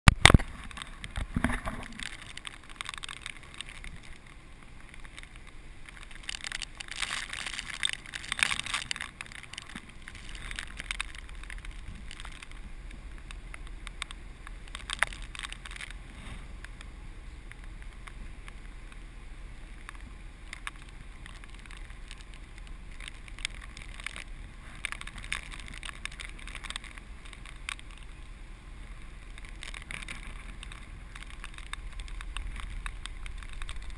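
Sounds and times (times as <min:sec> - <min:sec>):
low steady rumble: 0:00.1 - 0:33.9.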